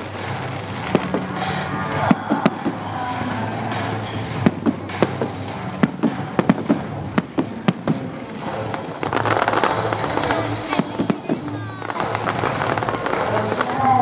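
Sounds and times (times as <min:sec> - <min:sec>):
background rumble: 0:00.0 - 0:14.0
fireworks bangs and cracks: 0:00.0 - 0:14.0.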